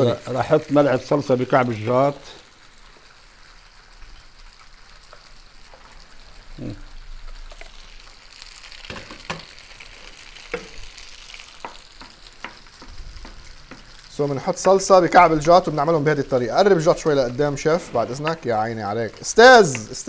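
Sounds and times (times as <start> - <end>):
noodles sizzling in a frying pan: 0.0 - 20.0.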